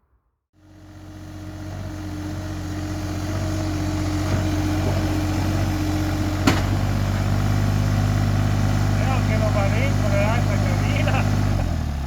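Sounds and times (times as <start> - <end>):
vehicle engine running: 0.6 - 12.0.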